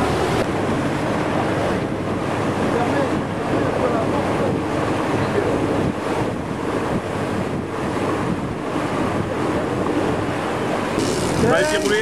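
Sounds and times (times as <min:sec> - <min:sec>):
sea water washing around boat: 0:00.0 - 0:12.0
wind noise on microphone: 0:00.0 - 0:12.0.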